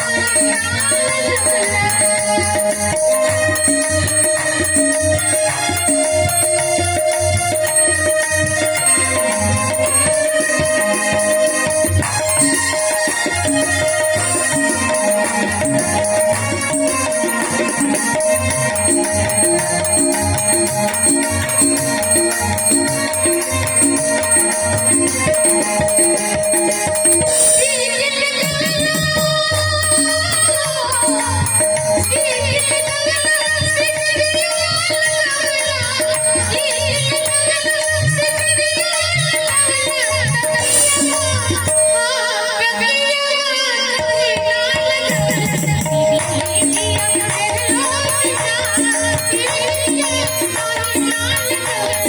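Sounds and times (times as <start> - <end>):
rattle-like percussion: 0.0 - 42.3, 44.1 - 52.0.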